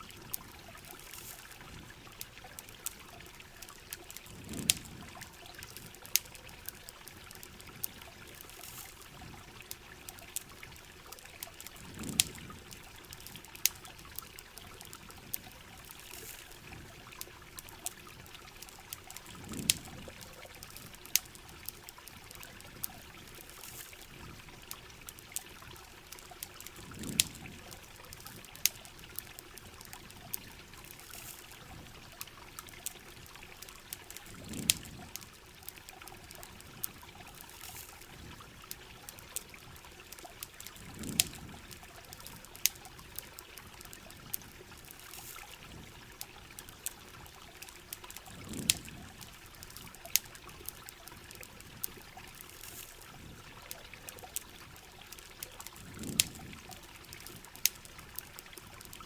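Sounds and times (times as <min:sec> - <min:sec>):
campfire crackles: 0:00.0 - 0:59.0.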